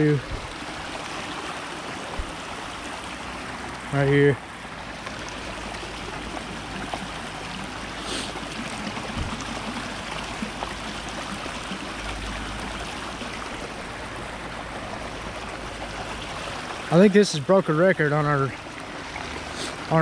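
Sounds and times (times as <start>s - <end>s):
water rushing down ditch: 0.0s - 20.0s.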